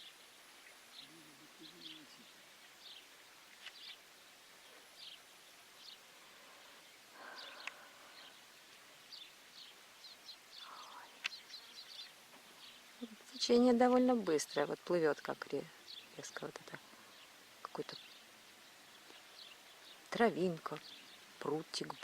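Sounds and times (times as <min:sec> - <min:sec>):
soft rustle: 0:00.0 - 0:22.0.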